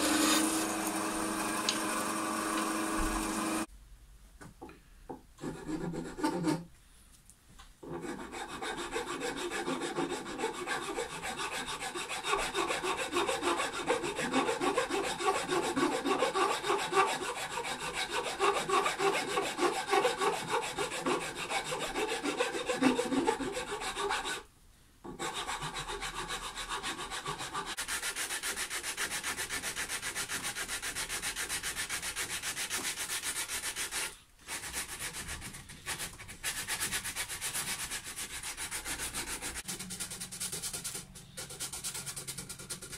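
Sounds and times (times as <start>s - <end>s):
file and sandpaper rubbing wood: 0.0s - 3.7s, 5.4s - 6.6s, 7.8s - 24.5s, 25.1s - 42.9s.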